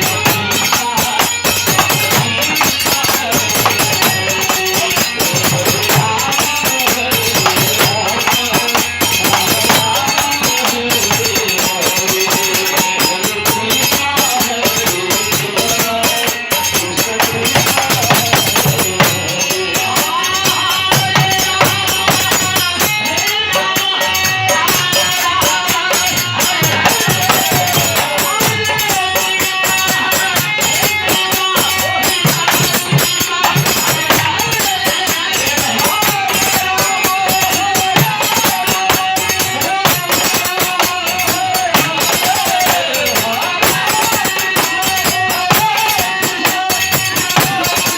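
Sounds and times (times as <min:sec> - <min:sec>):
jingling hand percussion: 0:00.0 - 0:47.9.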